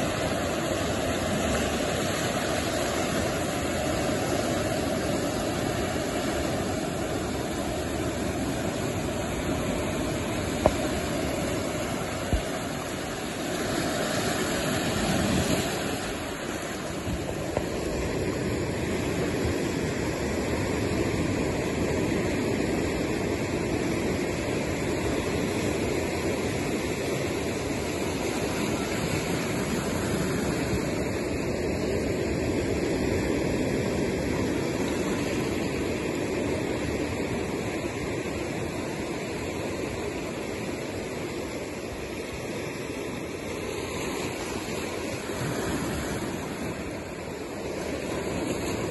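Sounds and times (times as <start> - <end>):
waves washing onto cobble beach: 0.0 - 48.9.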